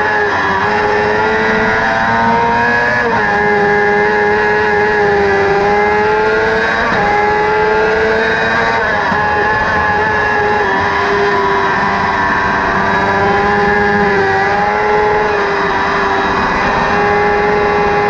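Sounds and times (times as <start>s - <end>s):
engine running at high revs: 0.0s - 18.0s
gear changes: 0.0s - 18.0s.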